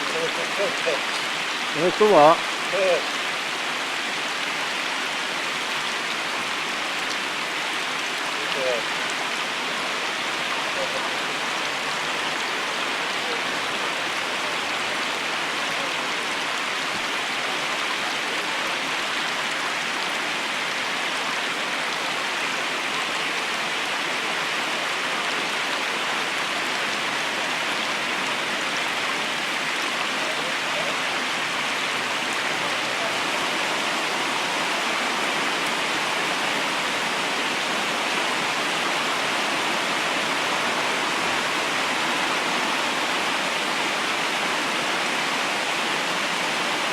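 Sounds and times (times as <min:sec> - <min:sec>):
river water rushing: 0:00.0 - 0:46.9.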